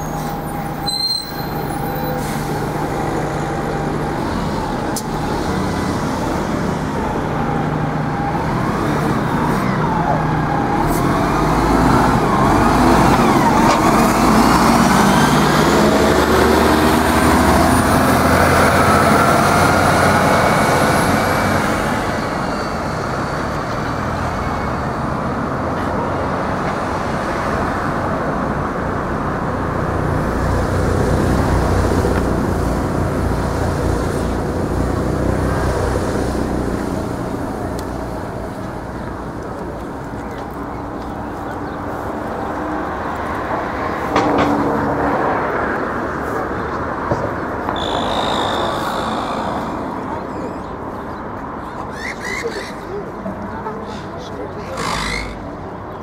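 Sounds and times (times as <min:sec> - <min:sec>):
diesel bus accelerating past: 0:00.0 - 0:56.0
road traffic noise: 0:00.0 - 0:56.0.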